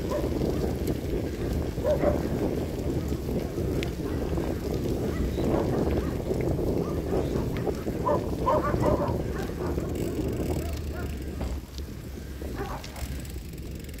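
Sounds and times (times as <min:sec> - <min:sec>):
bicycle tyres rolling on asphalt: 0:00.0 - 0:14.0
wind buffeting microphone: 0:00.0 - 0:14.0.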